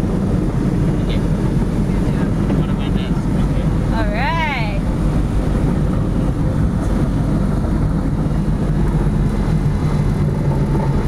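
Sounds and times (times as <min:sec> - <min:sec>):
aircraft piston engine drone: 0:00.0 - 0:11.0.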